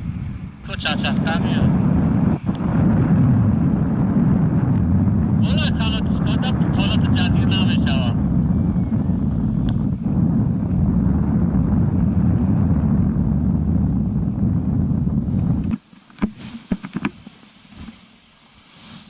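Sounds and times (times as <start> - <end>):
wind buffeting microphone: 0.0 - 18.7.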